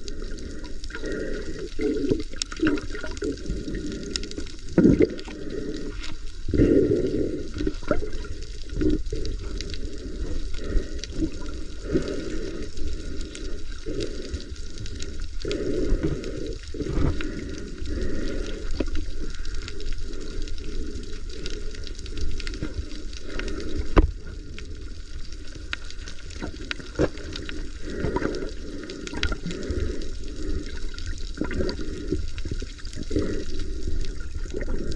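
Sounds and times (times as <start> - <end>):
sea water sloshing and bubbling: 0.0 - 34.9.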